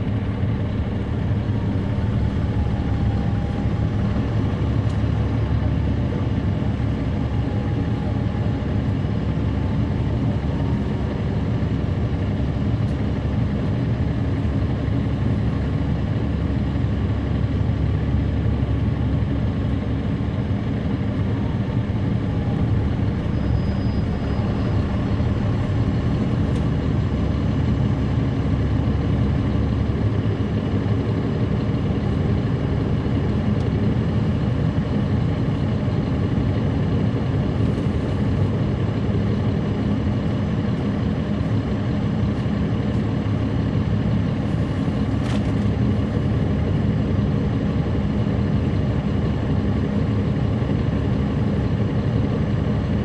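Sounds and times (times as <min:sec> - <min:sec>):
diesel bus engine droning: 0:00.0 - 0:53.0.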